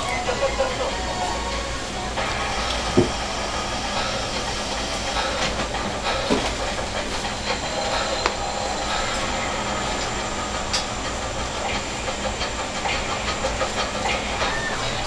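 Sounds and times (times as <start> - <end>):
kitchen hiss and hum: 0.0 - 15.0.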